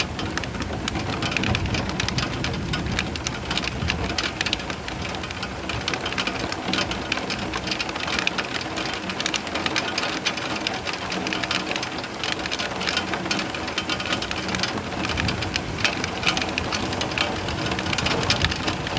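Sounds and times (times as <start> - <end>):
steady rain patter: 0.0 - 18.9.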